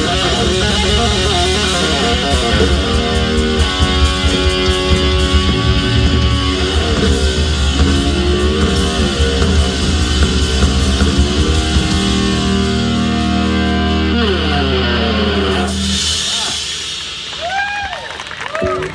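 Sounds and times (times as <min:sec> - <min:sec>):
electric guitar bending notes: 0:00.0 - 0:17.4
bass guitar: 0:00.0 - 0:18.9
drums: 0:00.0 - 0:18.9.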